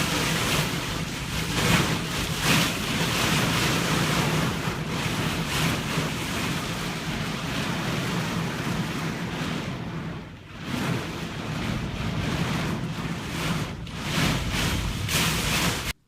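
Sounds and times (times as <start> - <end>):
storm wind: 0.0 - 16.0
surf: 0.0 - 16.0.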